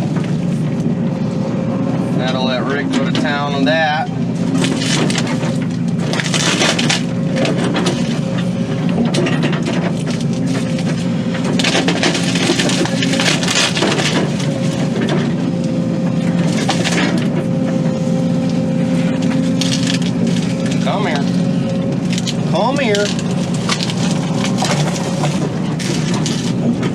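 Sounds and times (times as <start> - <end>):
excavator diesel engine running: 0.0 - 26.9
wood crunching and cracking: 4.3 - 26.9.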